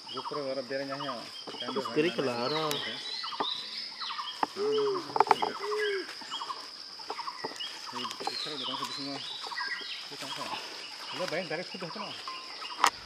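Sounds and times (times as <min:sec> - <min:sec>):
birds chirping: 0:00.0 - 0:13.0
high insect drone: 0:00.0 - 0:13.0.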